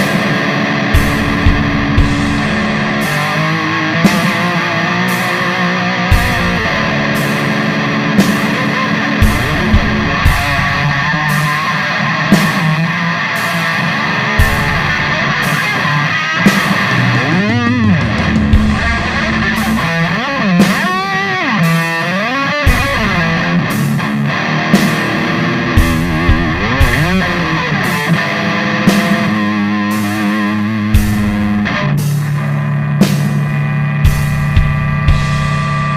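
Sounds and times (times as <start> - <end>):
distorted electric guitar: 0.0 - 35.9
steady drum beat: 0.0 - 35.9.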